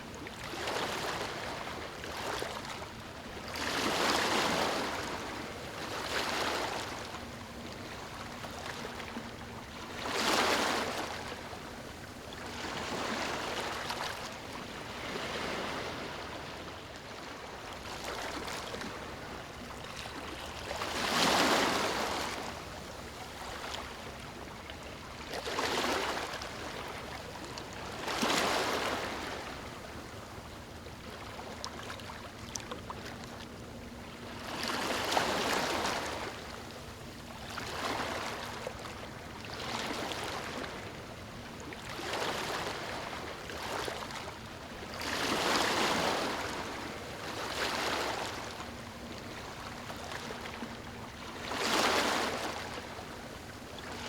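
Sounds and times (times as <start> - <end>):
small waves lapping on beach: 0.0 - 54.0.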